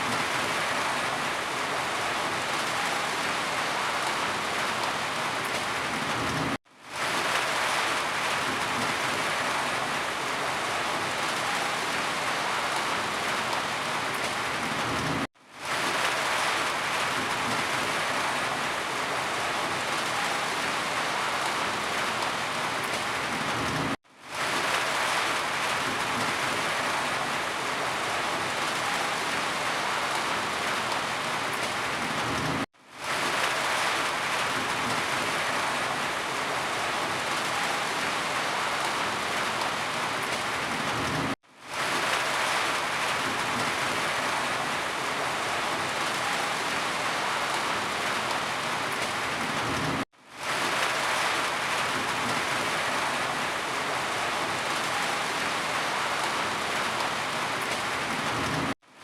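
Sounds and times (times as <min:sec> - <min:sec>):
heavy rain falling: 0:00.0 - 0:58.8.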